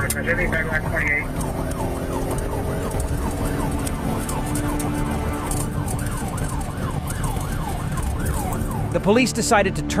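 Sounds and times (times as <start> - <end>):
police siren yelping: 0.0 - 9.4
car engine and road noise: 0.0 - 10.0.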